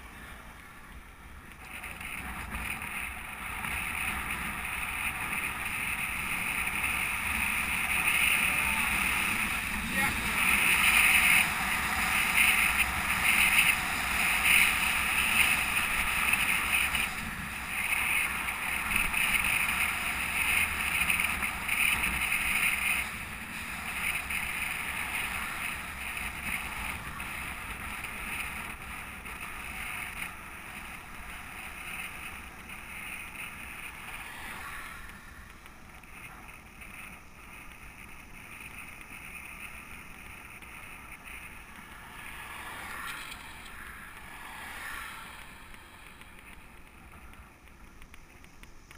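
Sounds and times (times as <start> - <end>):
tyre noise on asphalt: 0.0 - 48.9.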